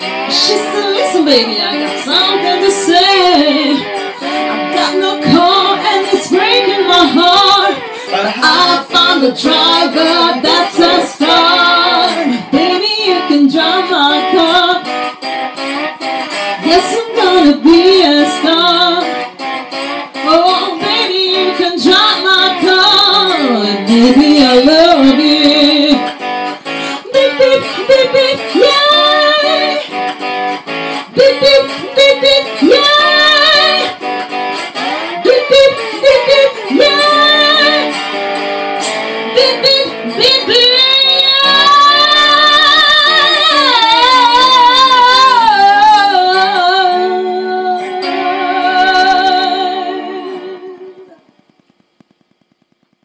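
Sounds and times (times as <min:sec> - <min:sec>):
woman singing: 0:00.0 - 0:15.2, 0:16.2 - 0:19.4, 0:20.2 - 0:51.3
lap steel guitar: 0:00.0 - 0:51.7.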